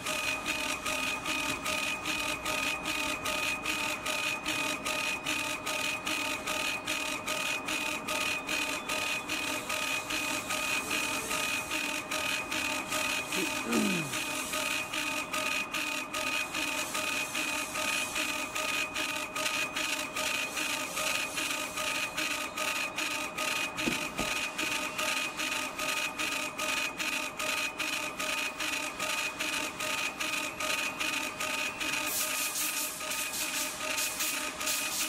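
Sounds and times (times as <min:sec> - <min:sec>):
laser cutter pulsing whine: 0:00.0 - 0:35.0.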